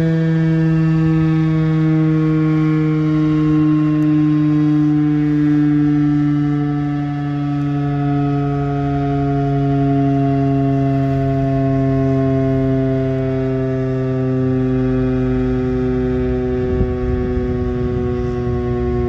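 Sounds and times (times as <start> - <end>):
warning siren: 0.0 - 19.0.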